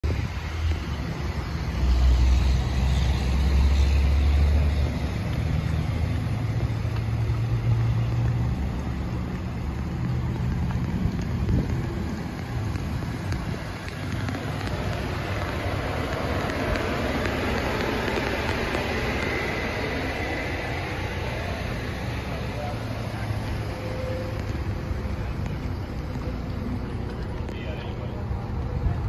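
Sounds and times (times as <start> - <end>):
passing vehicles rumble: 0.0 - 29.0
traffic hiss: 0.0 - 29.0.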